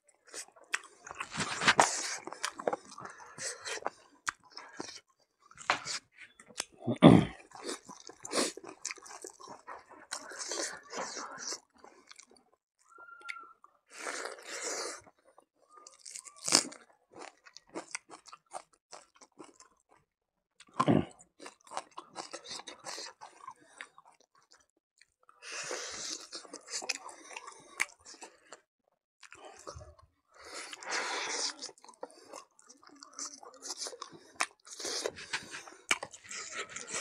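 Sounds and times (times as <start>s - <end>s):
chewing and crunching: 0.0s - 37.0s.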